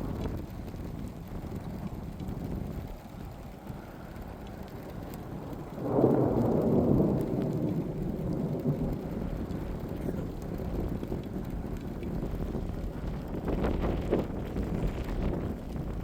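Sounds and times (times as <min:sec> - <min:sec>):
thunder rolling: 0:00.0 - 0:16.0.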